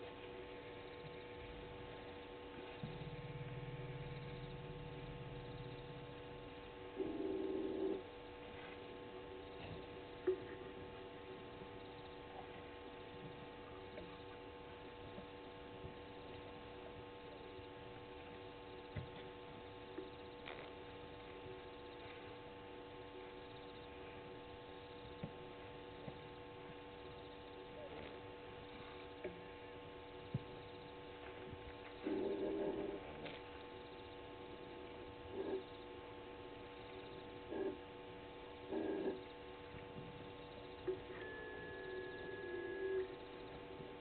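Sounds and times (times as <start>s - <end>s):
faint electrical hum: 0.0s - 44.0s.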